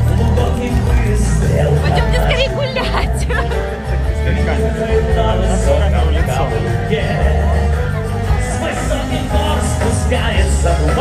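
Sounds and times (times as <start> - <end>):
amplified music with heavy bass: 0.0 - 11.0.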